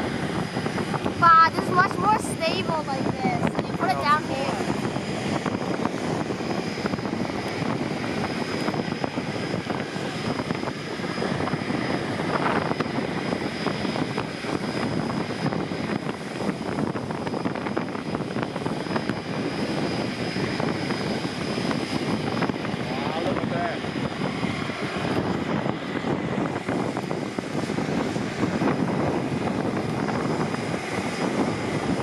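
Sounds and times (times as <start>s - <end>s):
engine with high whine: 0.0s - 32.0s.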